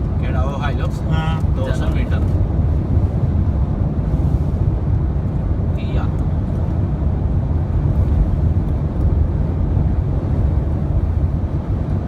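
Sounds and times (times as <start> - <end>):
vehicle driving on highway: 0.0 - 12.0.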